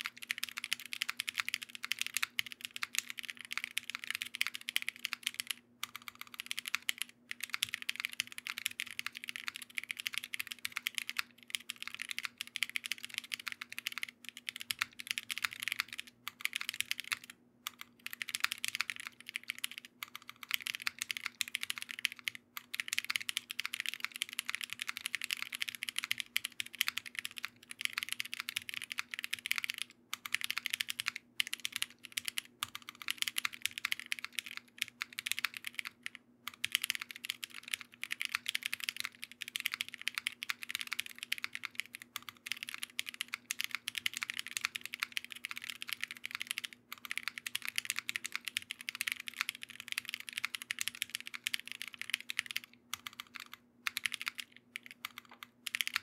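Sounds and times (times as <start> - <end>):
fast mechanical keyboard typing: 0.0 - 56.0.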